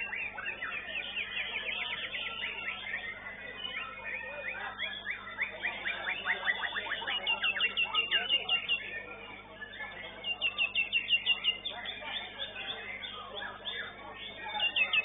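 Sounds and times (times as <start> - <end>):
bird chirping and trilling: 0.0 - 15.0.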